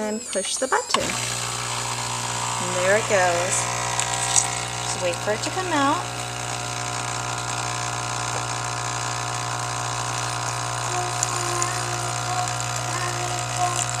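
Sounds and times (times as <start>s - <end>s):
coffee machine pump humming: 0.0s - 14.0s.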